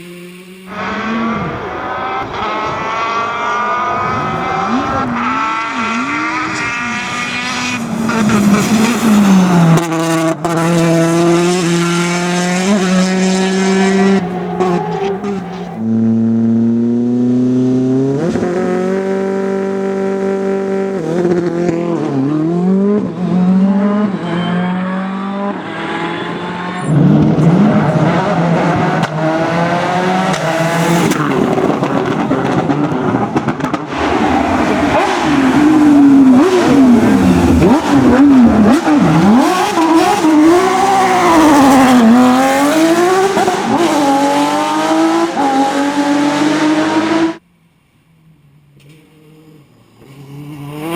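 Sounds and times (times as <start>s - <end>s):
rally car engines revving: 0.0s - 47.4s, 48.3s - 50.9s.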